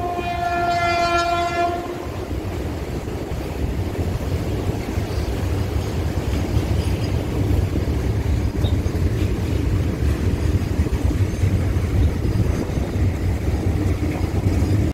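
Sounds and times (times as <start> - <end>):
freight train rumbling over bridge: 0.0 - 14.9.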